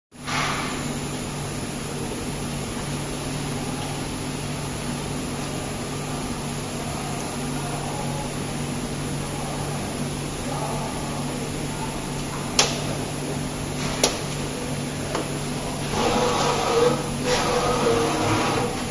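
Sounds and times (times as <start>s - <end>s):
machinery hum and hiss: 0.2s - 18.9s.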